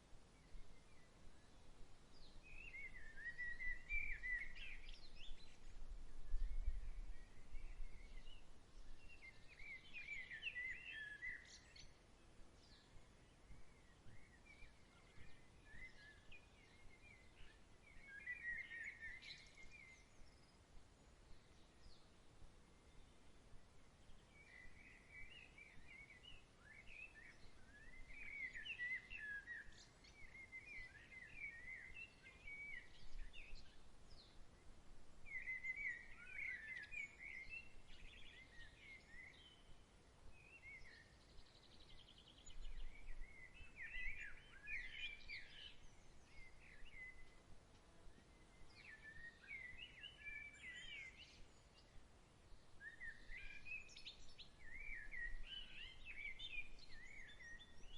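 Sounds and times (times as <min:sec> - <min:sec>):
soft outdoor air hiss: 0:00.0 - 0:57.9
songbirds chirping: 0:00.0 - 0:57.9.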